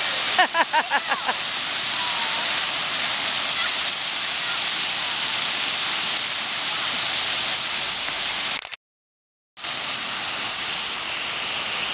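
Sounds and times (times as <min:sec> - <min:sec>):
water fountain splashing: 0:00.0 - 0:08.6, 0:09.6 - 0:11.9.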